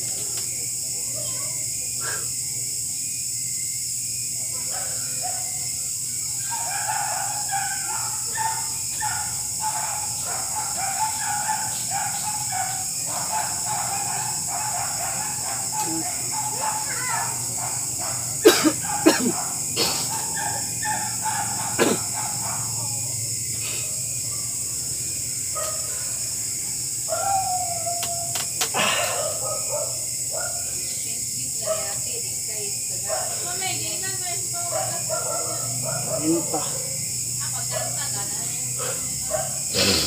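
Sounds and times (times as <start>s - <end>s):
high insect hiss: 0.0s - 40.0s.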